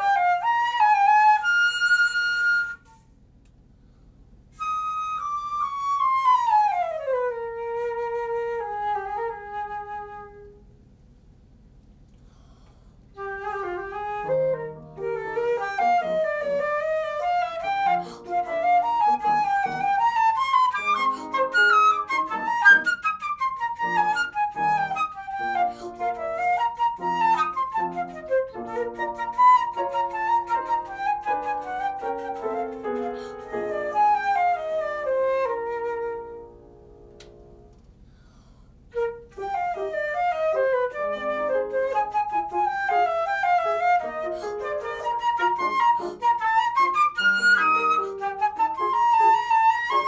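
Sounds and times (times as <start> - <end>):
flute melody: 0.0 - 3.2, 4.5 - 10.8, 13.1 - 37.8, 38.9 - 50.0
piano accompaniment: 4.6 - 10.8, 13.1 - 38.0, 38.9 - 50.0.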